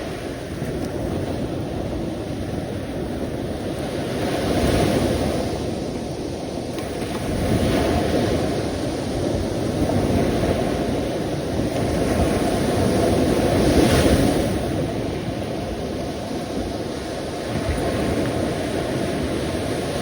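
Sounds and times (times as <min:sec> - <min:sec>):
sea waves washing in: 0:00.0 - 0:20.0.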